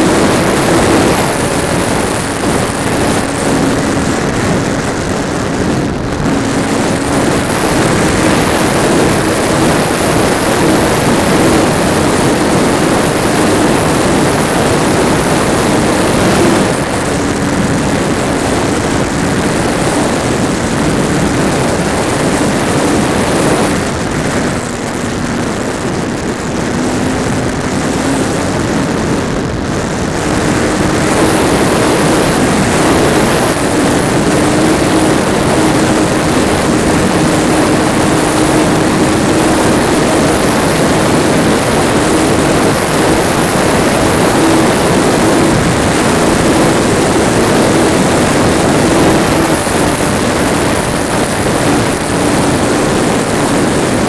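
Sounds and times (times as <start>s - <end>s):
electric motor propeller whirring: 0.0s - 54.0s
rushing wind noise: 0.0s - 54.0s.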